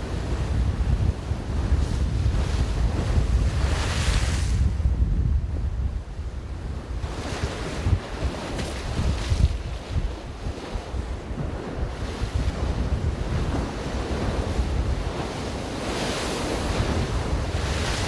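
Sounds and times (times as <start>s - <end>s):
waves washing on shore: 0.0s - 4.8s, 6.8s - 18.0s
wind buffeting microphone: 0.0s - 18.0s.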